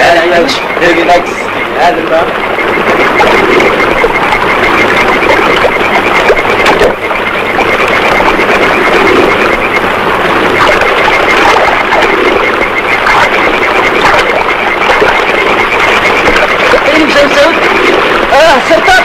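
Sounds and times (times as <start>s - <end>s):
churning water rushing: 0.0s - 19.0s
swimmers splashing: 0.0s - 19.0s.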